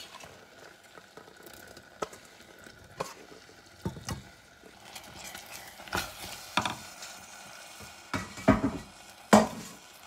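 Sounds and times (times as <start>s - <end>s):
faint sizzle: 0.0s - 10.0s.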